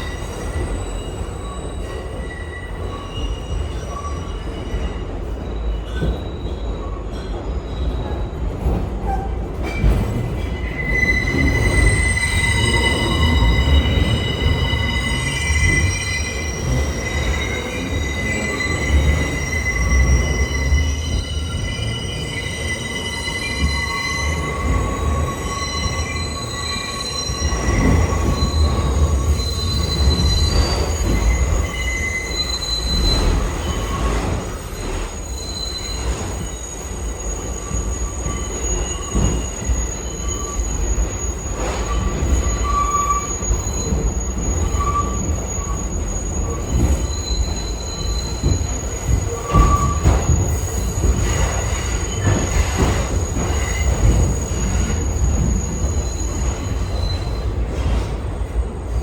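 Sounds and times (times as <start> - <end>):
train rumbling on rails: 0.0 - 59.0
train wheels squealing: 0.0 - 59.0.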